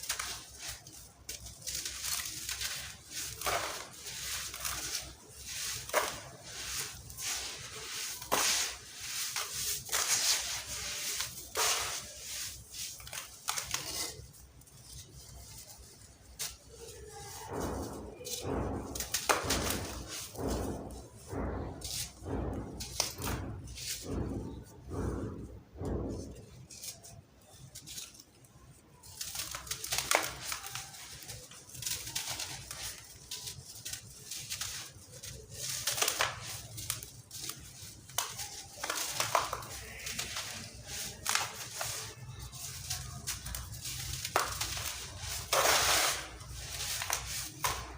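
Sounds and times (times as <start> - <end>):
sand-cement lumps crushed and cracking: 0.0 - 26.4, 29.0 - 47.9.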